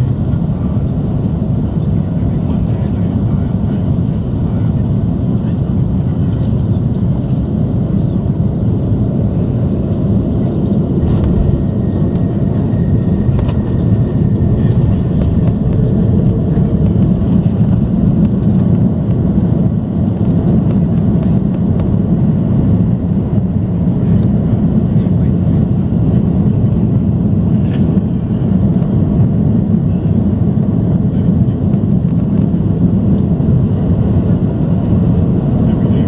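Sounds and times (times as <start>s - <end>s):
aircraft cabin engine and airflow rush: 0.0s - 36.0s.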